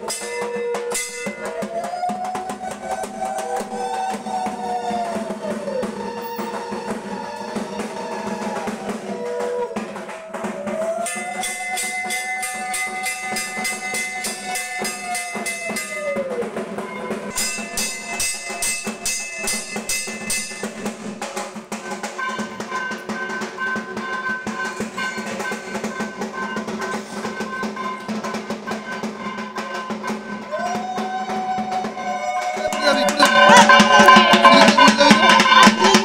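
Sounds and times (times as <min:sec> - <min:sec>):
fast steady drumming: 0:00.0 - 0:36.0.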